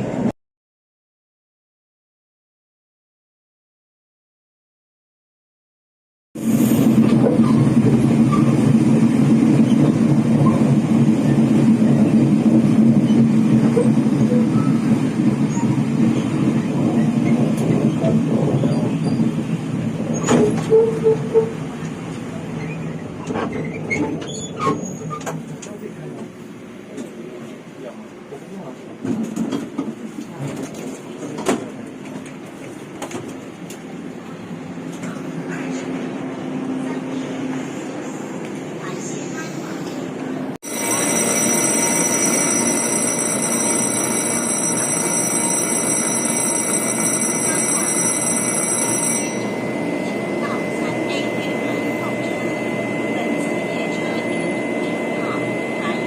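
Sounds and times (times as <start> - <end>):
train rumbling: 6.4 - 56.0.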